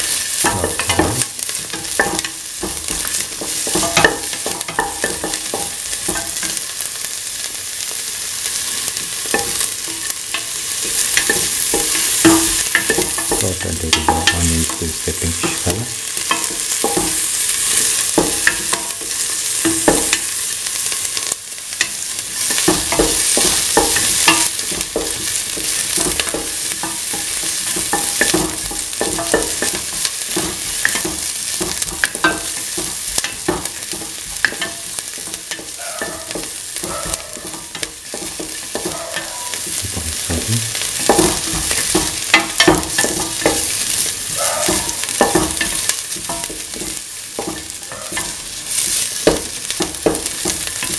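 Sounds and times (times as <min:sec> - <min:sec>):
spatula scraping and tapping metal pan: 0:00.0 - 0:07.2, 0:08.2 - 0:50.9
onions sizzling in oil: 0:00.0 - 0:50.9.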